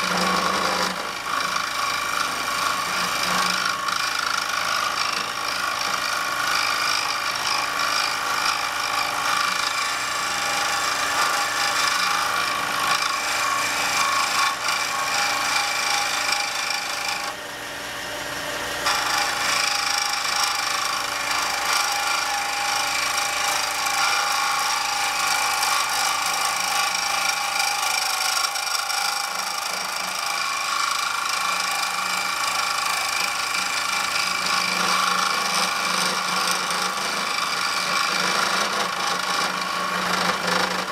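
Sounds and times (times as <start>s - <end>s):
chisel hissing rasping cut: 0.0s - 40.9s
lathe running hum: 0.0s - 40.9s.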